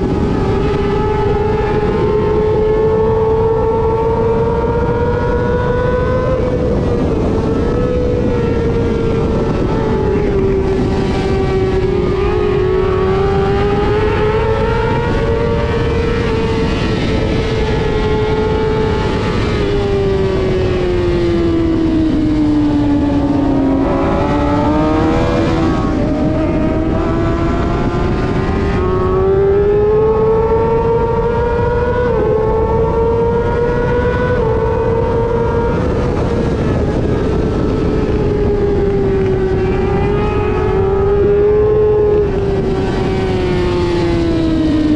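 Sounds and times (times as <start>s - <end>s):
racing motorcycle engine high revs: 0.0s - 44.9s.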